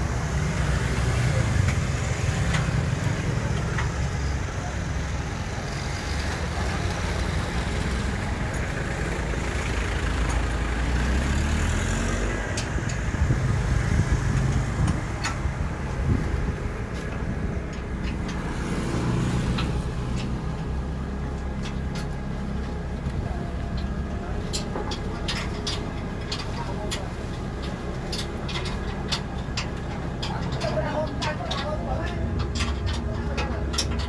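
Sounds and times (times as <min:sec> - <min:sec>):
heavy vehicle engine running: 0:00.0 - 0:34.0.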